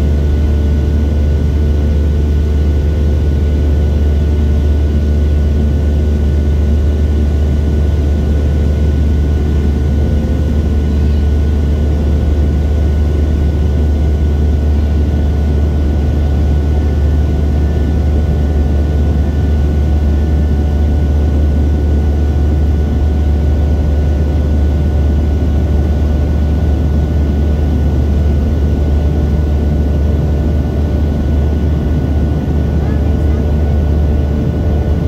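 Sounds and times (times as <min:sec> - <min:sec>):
airplane cabin drone: 0:00.0 - 0:35.0.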